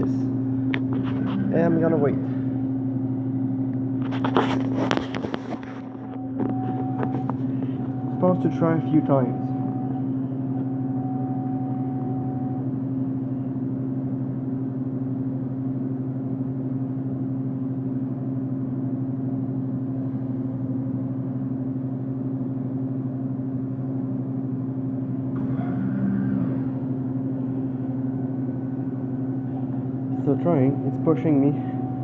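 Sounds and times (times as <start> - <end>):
vending machine humming: 0.0 - 32.0.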